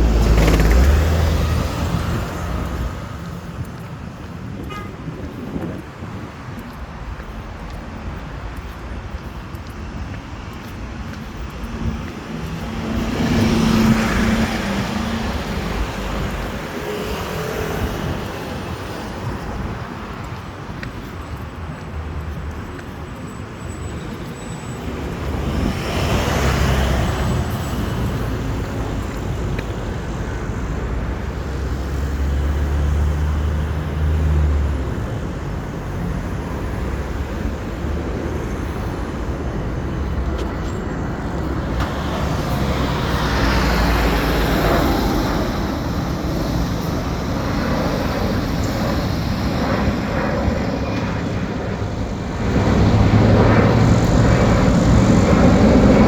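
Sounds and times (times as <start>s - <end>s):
road traffic rumble: 0.0s - 56.0s
vehicles passing: 0.0s - 56.0s.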